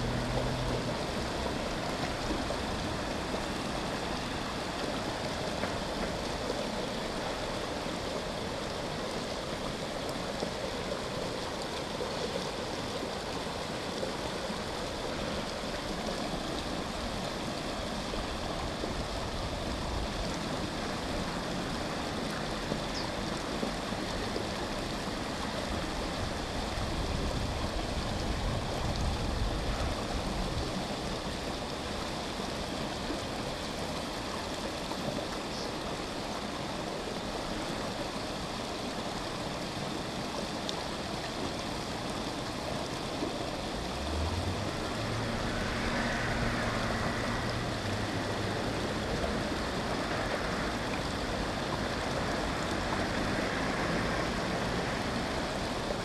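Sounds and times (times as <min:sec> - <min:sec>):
river water splashing over a step: 0:00.0 - 0:56.0.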